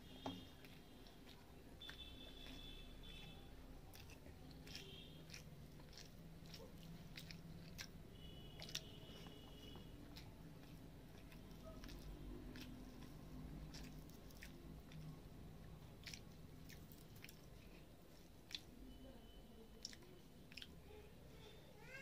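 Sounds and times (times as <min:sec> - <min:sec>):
fingers squishing food: 0:00.0 - 0:21.2
soft chewing: 0:00.0 - 0:22.0
small wet clicks: 0:00.1 - 0:18.8, 0:19.7 - 0:20.9.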